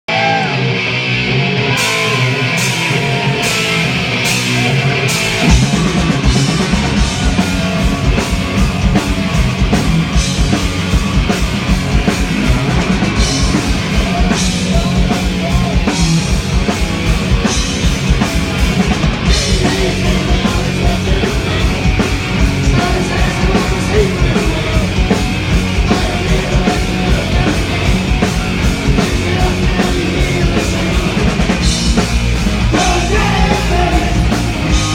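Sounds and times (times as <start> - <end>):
heavy metal band playing: 0.1 - 34.9.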